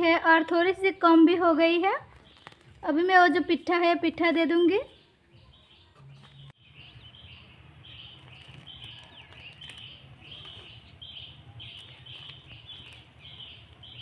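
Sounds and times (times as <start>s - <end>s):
small birds chirping: 1.7s - 3.6s, 4.2s - 14.0s.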